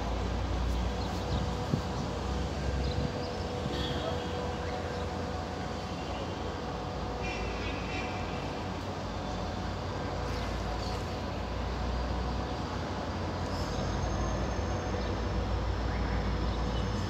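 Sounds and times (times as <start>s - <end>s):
faint engine hum: 0.0s - 17.0s.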